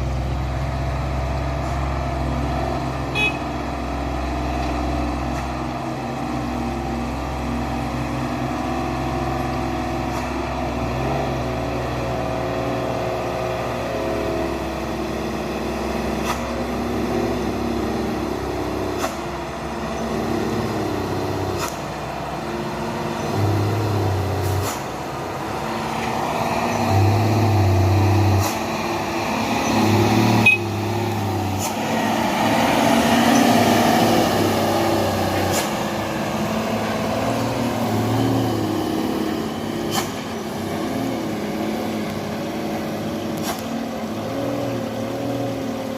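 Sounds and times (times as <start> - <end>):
dump truck engine driving past: 0.0 - 45.9.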